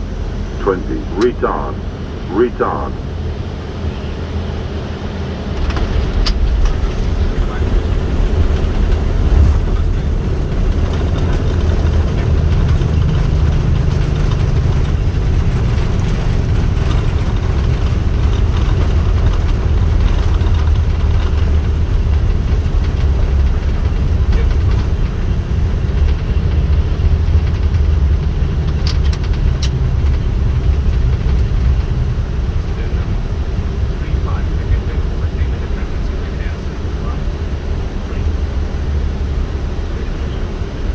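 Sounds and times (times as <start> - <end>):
plane rumbling on runway: 0.0 - 40.9.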